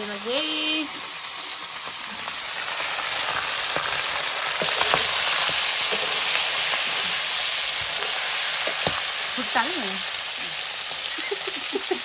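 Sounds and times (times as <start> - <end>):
meat sizzling in hot oil: 0.0 - 12.0
oil popping and crackling: 0.0 - 12.0.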